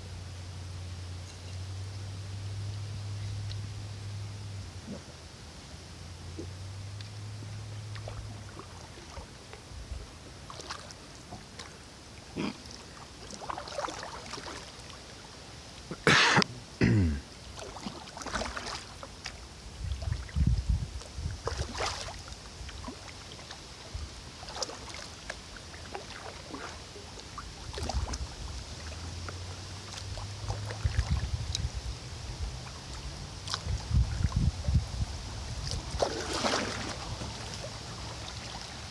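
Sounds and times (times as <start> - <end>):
kayak paddle splashing in water: 6.2 - 16.4, 17.3 - 38.9.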